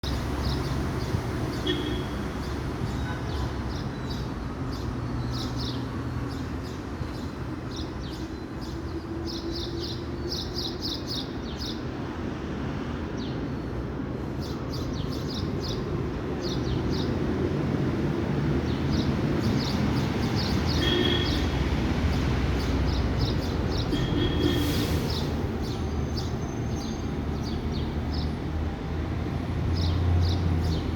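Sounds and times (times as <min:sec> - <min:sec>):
street traffic rumble: 0:00.0 - 0:30.9.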